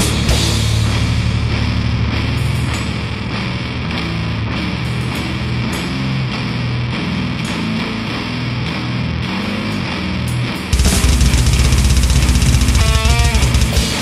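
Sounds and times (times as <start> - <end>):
distorted electric guitars: 0.0 - 14.0.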